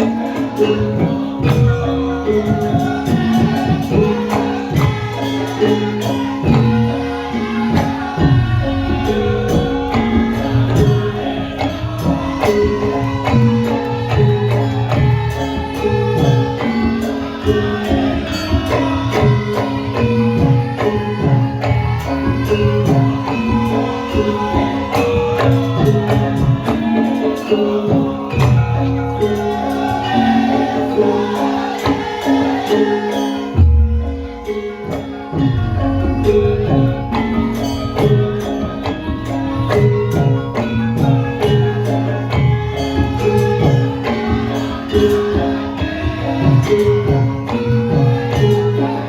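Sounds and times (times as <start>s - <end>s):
jingling percussion: 0.0s - 49.0s.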